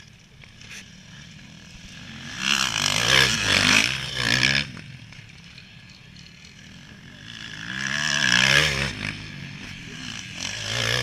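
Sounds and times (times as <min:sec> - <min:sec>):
motocross bike revving past: 0:00.0 - 0:11.0.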